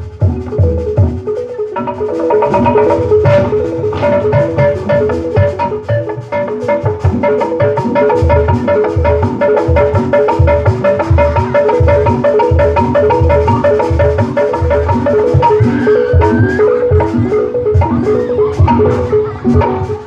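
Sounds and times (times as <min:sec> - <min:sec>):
metal mallet instruments melody: 0:00.0 - 0:20.0.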